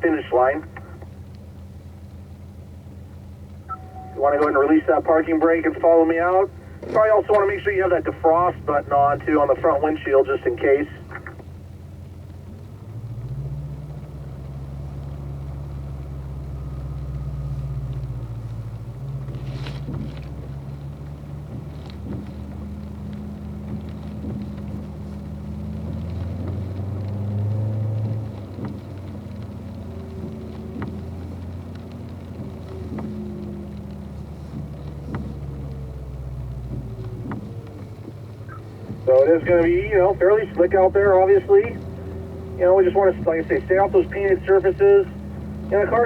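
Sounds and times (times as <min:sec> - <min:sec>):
car engine from inside cabin: 0:00.0 - 0:46.0
faint clicks: 0:06.6 - 0:11.5, 0:13.2 - 0:46.0.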